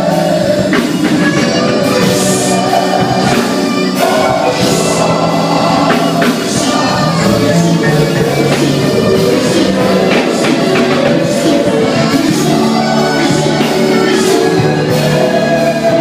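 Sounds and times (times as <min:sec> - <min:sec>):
band playing worship music: 0:00.0 - 0:16.0
voices singing: 0:00.0 - 0:16.0.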